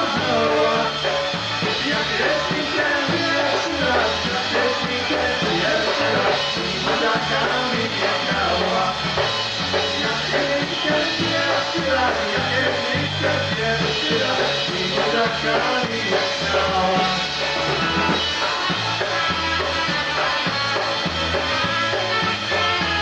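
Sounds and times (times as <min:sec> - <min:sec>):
bass line: 0:00.0 - 0:23.0
polka band playing: 0:00.0 - 0:23.0.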